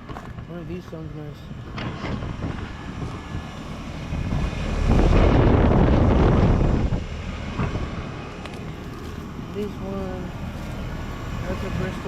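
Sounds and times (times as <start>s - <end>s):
air conditioning units humming: 0.0s - 12.0s
wind rush on microphone: 1.4s - 12.0s.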